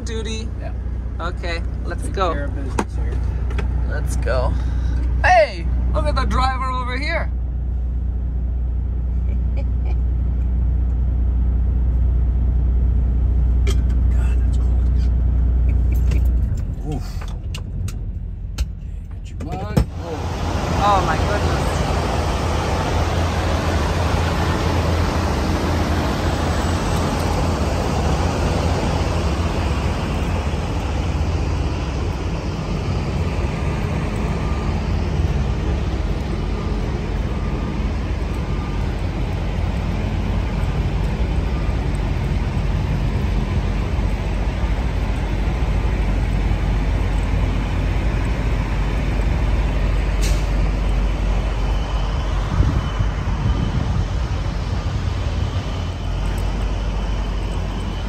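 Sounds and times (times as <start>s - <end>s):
diesel truck engines idling: 0.0s - 58.0s.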